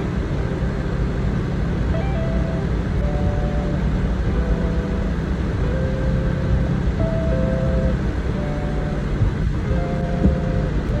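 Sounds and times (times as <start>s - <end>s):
car road and engine rumble: 0.0s - 11.0s
simple melody of held notes: 0.3s - 11.0s.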